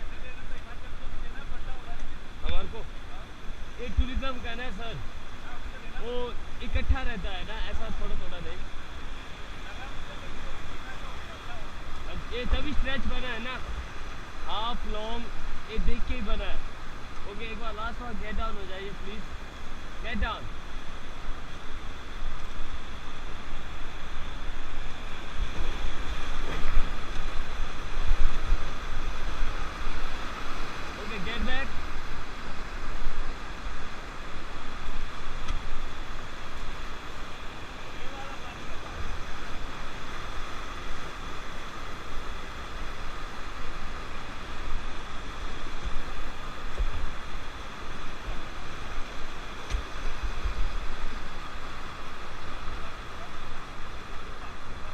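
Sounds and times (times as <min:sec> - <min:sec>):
river rapids roaring: 0:00.0 - 0:54.9
rushing whitewater: 0:00.0 - 0:54.9.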